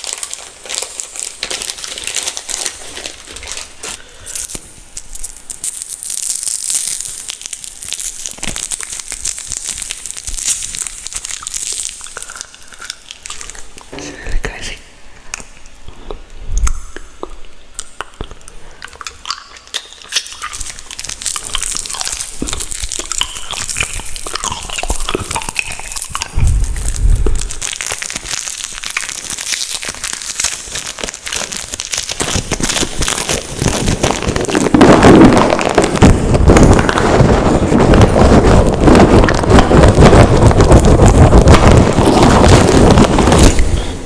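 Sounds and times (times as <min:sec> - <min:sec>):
crinkling and scratching at microphone: 0:00.0 - 0:44.0.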